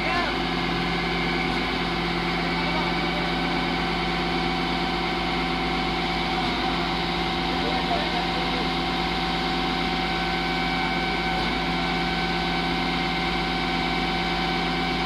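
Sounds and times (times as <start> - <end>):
heavy machinery engine idling: 0.0 - 15.0.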